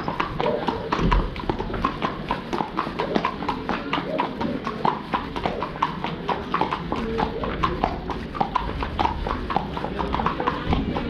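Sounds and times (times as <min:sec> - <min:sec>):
horse hooves clip-clopping on road: 0:00.0 - 0:11.0.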